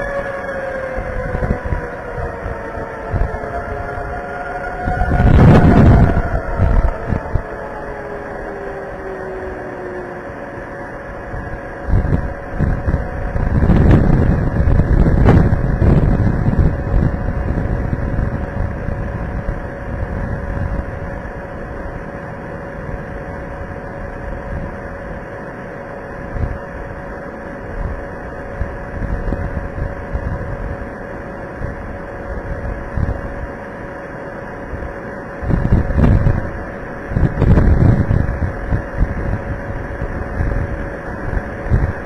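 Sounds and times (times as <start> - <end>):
faint steady hum: 0.0 - 42.0
storm wind buffeting microphone: 0.0 - 42.0.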